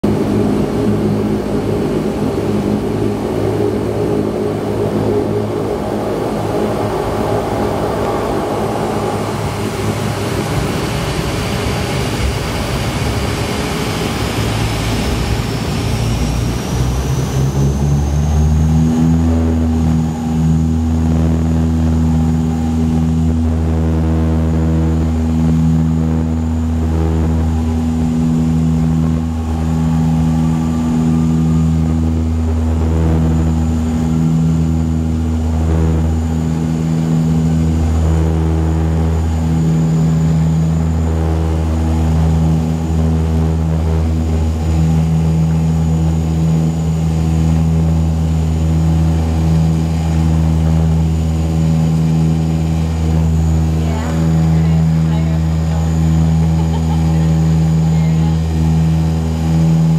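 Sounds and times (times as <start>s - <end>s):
high turbine whine: 0.0s - 59.9s
turboprop engines rumbling: 0.0s - 59.9s.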